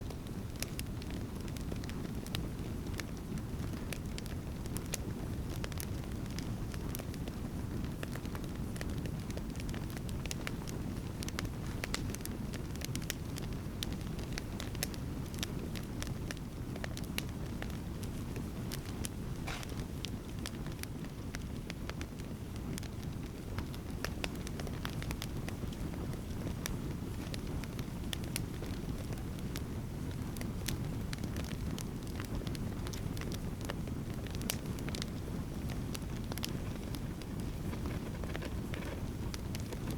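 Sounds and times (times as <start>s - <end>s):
campfire crackling and popping: 0.1s - 39.9s.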